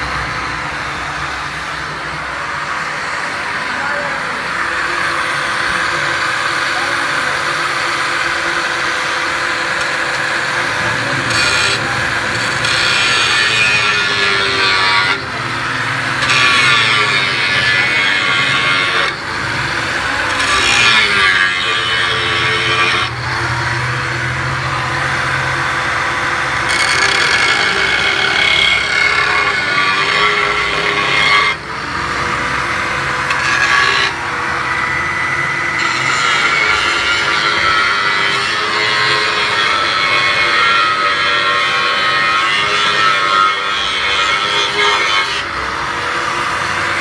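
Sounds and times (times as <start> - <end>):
angle grinder cutting sheet metal: 0.0 - 47.0.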